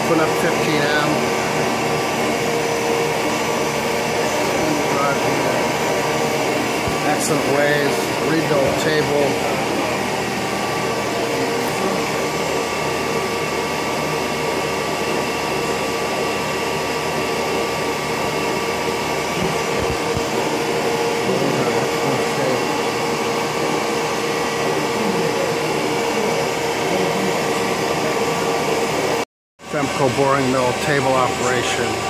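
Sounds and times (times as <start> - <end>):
boring mill motor whirring: 0.0 - 32.0.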